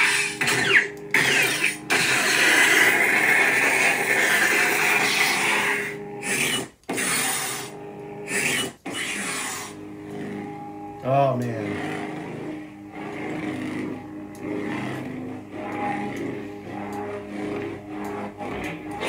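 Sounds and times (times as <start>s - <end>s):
lightsaber hum: 0.0s - 19.0s.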